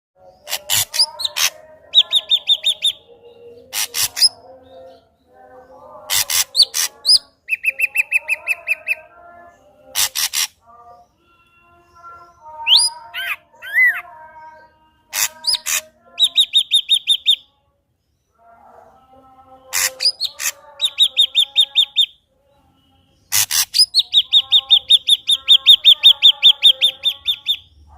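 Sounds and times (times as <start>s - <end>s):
bird singing varied song: 0.2s - 27.9s.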